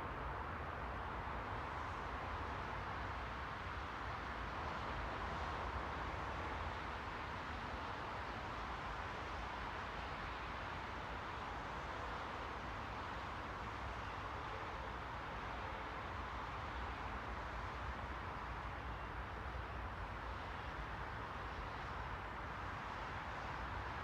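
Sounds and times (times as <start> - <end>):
steady white noise hiss: 0.0 - 24.0.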